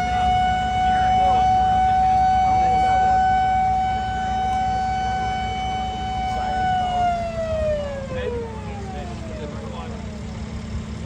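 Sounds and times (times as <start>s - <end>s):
siren steady tone: 0.0s - 10.4s.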